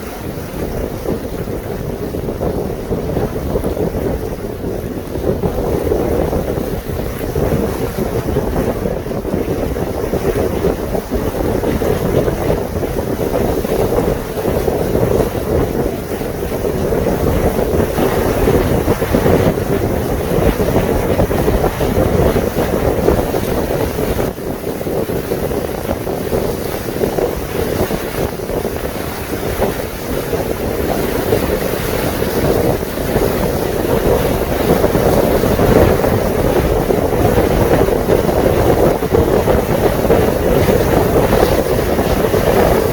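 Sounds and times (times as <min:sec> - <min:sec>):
boat rushing through water: 0:00.0 - 0:42.9
wind buffeting microphone: 0:00.0 - 0:42.9.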